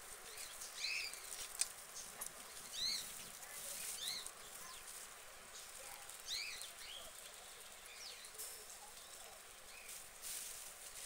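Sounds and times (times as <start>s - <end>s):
birds chirping: 0.0s - 10.2s
steady background hiss: 0.0s - 11.0s.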